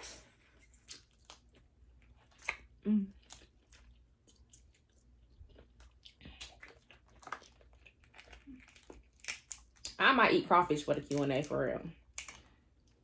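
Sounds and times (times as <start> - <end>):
chewing with wet mouth smacks: 0.4 - 10.0, 10.8 - 13.0.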